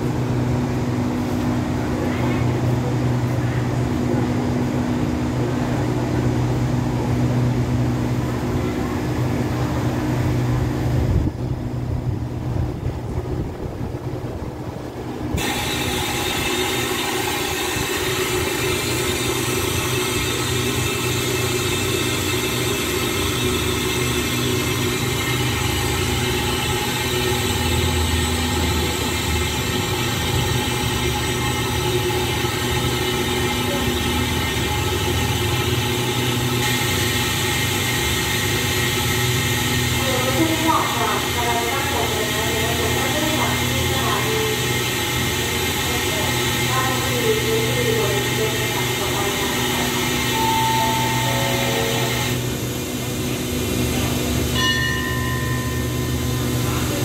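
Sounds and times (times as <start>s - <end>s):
diesel train engines humming: 0.0s - 57.0s.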